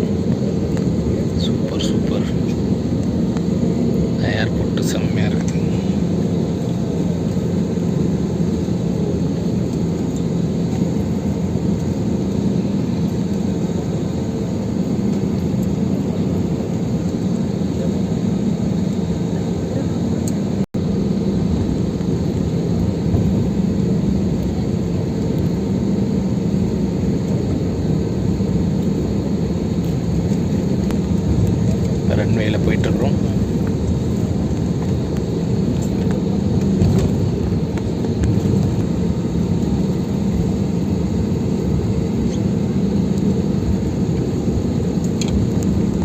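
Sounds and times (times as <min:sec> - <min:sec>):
jet engines droning in cabin: 0:00.0 - 0:46.0.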